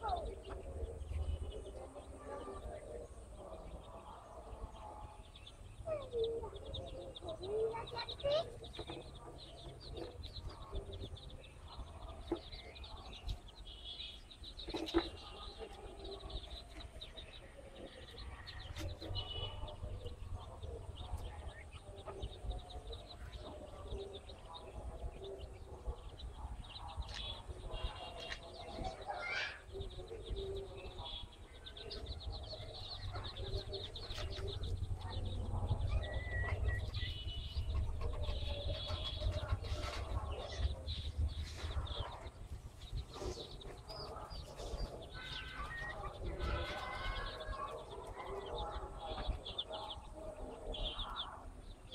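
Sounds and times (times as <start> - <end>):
chicks peeping: 0.0 - 51.9
hen clucking: 0.0 - 51.9.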